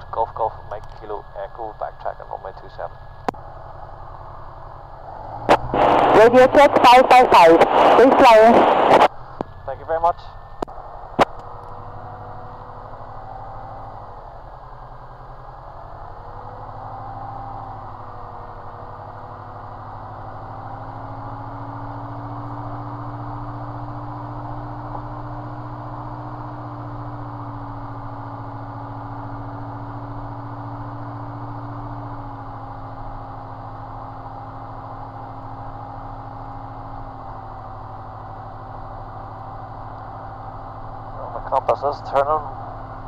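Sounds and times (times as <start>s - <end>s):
light aircraft engine drone: 0.0s - 43.0s.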